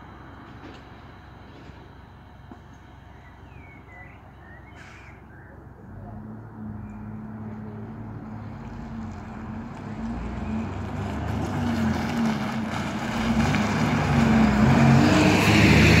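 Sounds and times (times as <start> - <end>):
diesel bus accelerating past: 0.0 - 16.0.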